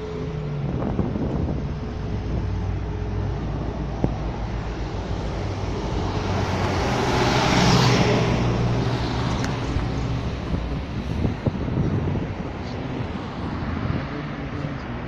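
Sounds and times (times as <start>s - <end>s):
steady low rumble: 0.0s - 7.1s, 8.1s - 15.0s
traffic passing by: 0.0s - 15.0s.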